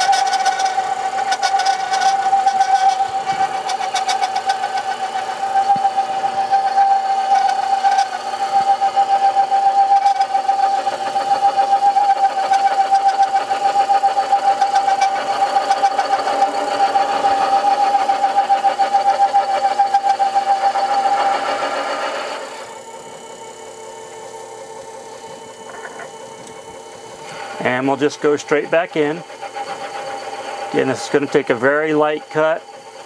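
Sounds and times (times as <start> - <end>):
metal lathe whining: 0.0 - 33.0.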